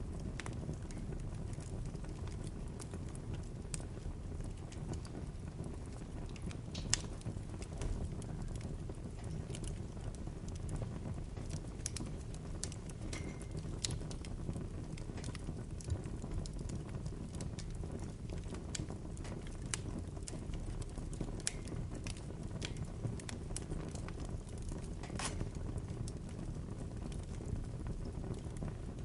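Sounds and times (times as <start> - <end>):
bonfire rumbling: 0.0 - 29.0
fire crackling and popping: 0.0 - 29.0.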